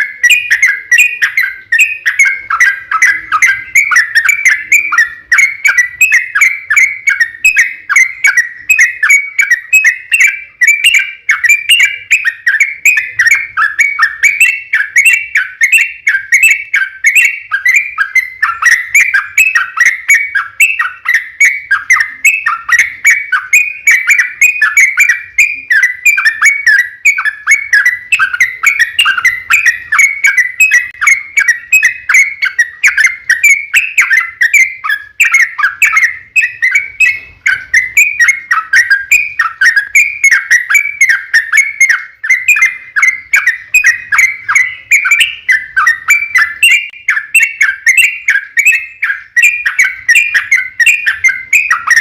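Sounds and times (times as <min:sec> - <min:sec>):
bird singing rapid chattering notes: 0:00.0 - 0:52.0.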